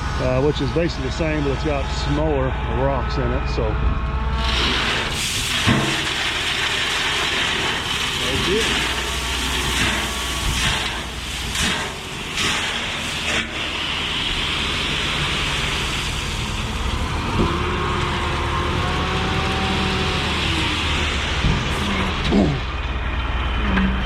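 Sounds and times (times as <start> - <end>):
heavy diesel equipment running: 0.0 - 24.0
steady engine tone: 0.0 - 24.0.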